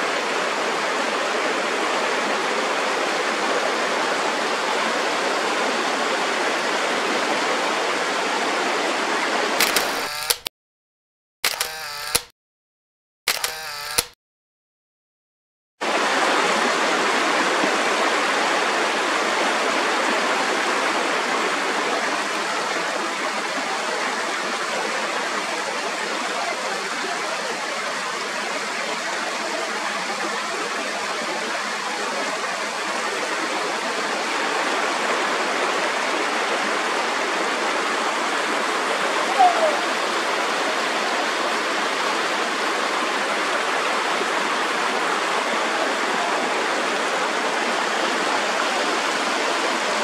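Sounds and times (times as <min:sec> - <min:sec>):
stream rushing over rocks: 0:00.0 - 0:09.6, 0:15.8 - 0:50.0.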